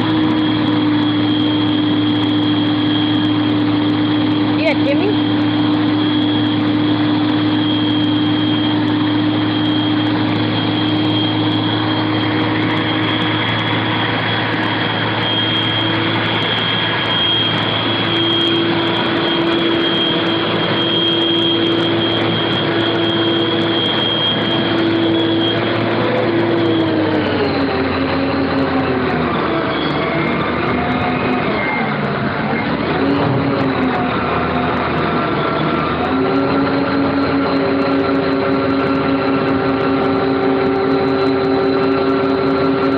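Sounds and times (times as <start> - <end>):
crane engine running: 0.0 - 42.9
high whine: 0.0 - 42.9.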